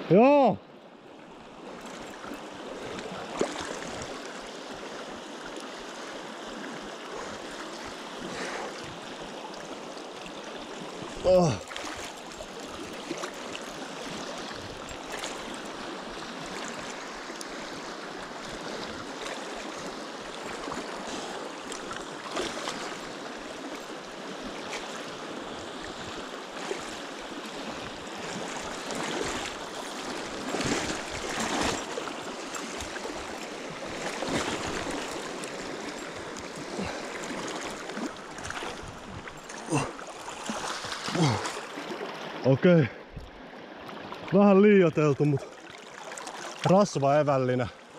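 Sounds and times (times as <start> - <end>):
water rushing through river rapids: 1.7 - 43.2.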